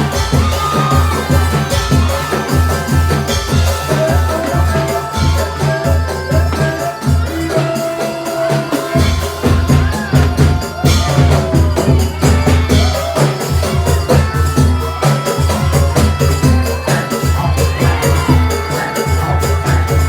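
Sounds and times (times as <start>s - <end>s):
drums and hand percussion: 0.0s - 20.0s.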